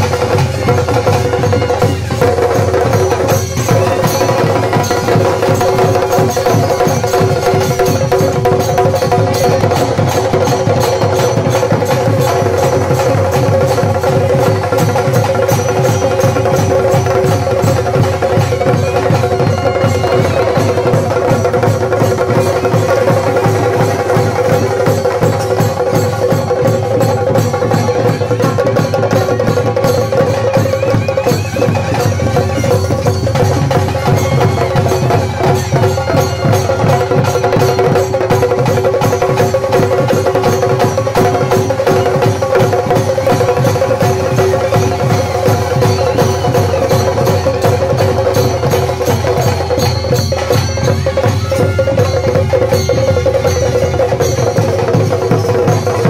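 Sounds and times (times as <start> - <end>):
fast dense drumming: 0.0 - 56.0.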